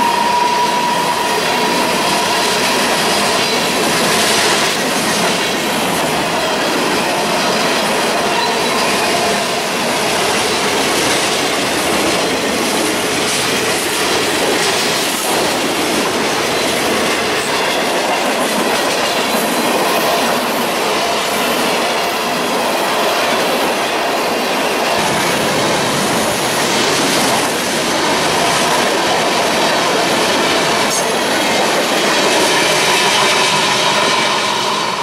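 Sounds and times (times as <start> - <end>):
freight train wheels on rails: 0.0 - 35.0.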